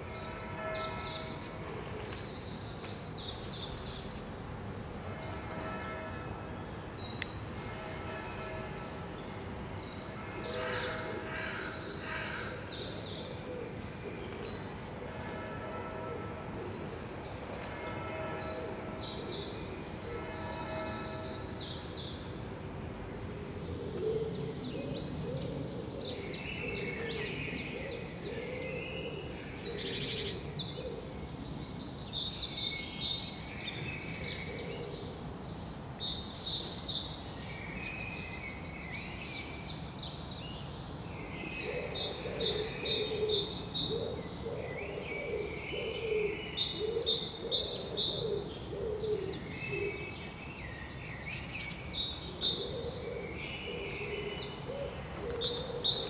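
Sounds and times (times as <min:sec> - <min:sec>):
songbirds chirping: 0:00.0 - 0:56.0
steady outdoor hum: 0:00.0 - 0:56.0.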